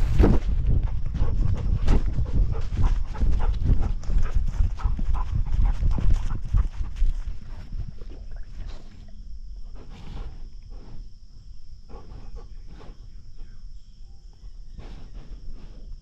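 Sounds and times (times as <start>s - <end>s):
dog breathing heavily: 0.0s - 13.4s
high insect drone: 0.0s - 16.0s.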